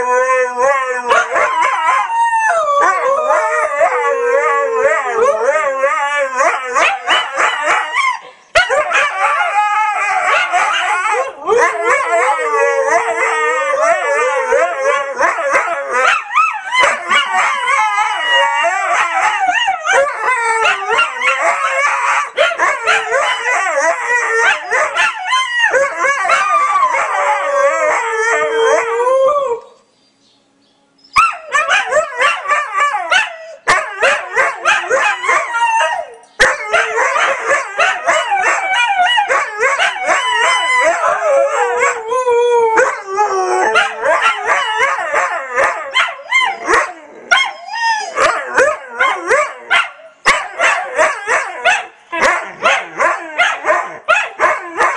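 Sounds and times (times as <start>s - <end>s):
dogs howling together: 0.0s - 29.8s, 31.2s - 54.9s.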